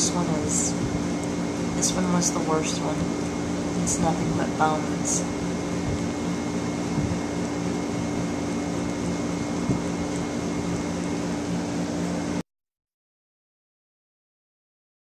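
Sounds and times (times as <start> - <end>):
appliance mechanical hum: 0.0 - 12.4.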